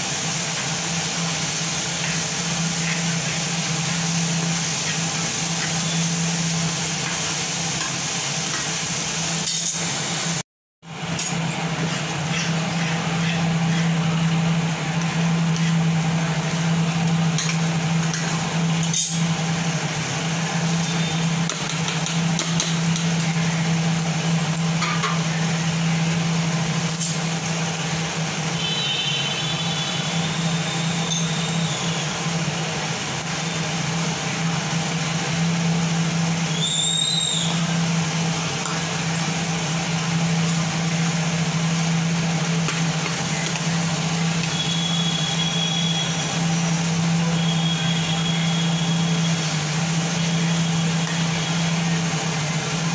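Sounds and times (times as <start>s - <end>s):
kitchen fan humming: 0.0s - 52.9s.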